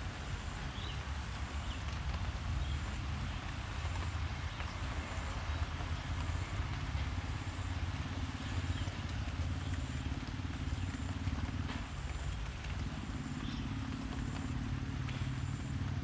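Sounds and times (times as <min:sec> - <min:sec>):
constant low rumble: 0:00.0 - 0:16.0
steady rain falling: 0:00.0 - 0:16.0.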